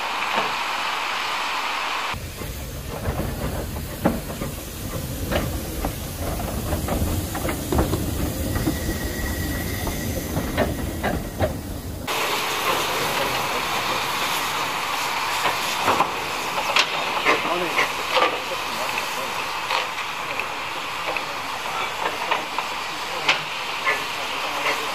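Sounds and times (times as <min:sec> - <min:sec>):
steam hissing: 0:00.0 - 0:24.9
steam train rumbling on rails: 0:00.0 - 0:24.9.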